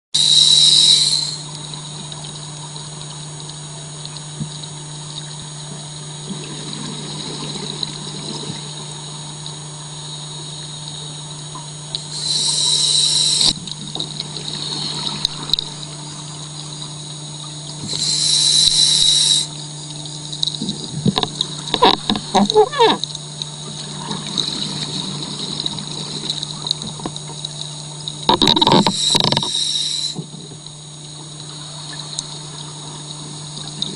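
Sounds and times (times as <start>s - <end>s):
exhaled bubbles underwater: 0.2s - 33.9s
steady low hum: 0.2s - 33.9s
rapid crackling bubbles: 0.6s - 9.7s, 10.4s - 33.9s.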